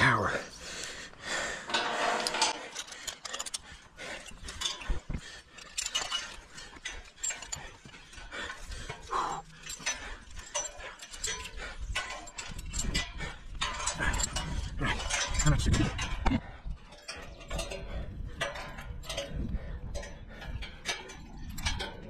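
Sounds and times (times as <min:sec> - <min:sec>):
person breathing hard: 0:00.5 - 0:14.8, 0:16.4 - 0:21.3
clinks of hardware on steel: 0:01.6 - 0:22.0.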